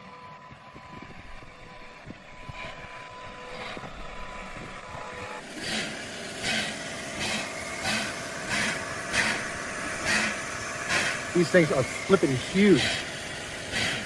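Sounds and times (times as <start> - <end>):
steam locomotive exhaust chuffs: 0.0 - 14.0
steam locomotive rumble: 0.0 - 14.0.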